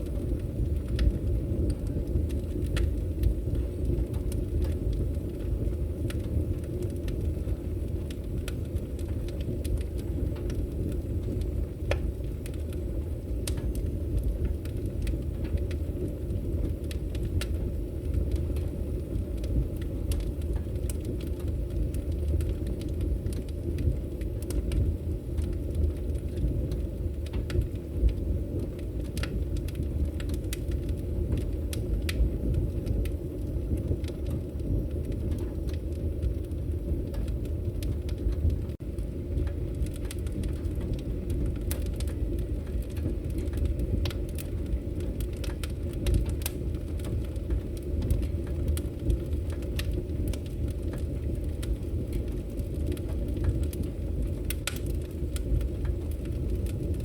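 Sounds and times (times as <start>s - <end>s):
flames rushing: 0.0s - 57.0s
wood crackling and popping: 0.0s - 57.0s.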